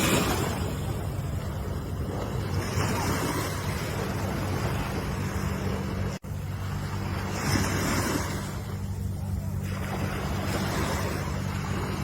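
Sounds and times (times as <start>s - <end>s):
waves washing in: 0.0s - 12.0s.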